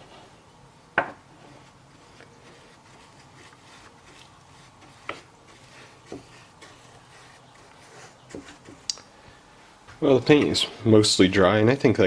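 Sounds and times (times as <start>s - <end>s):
low room tone hum: 0.0s - 12.0s.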